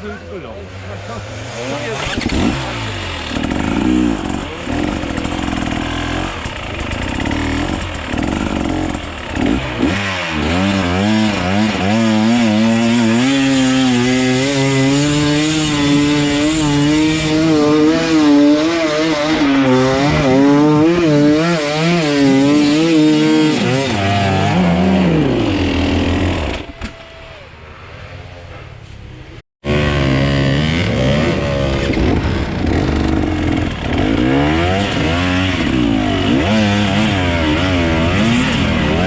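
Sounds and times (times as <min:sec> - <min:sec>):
motorcycle engine revving: 0:00.8 - 0:26.7, 0:29.6 - 0:39.0.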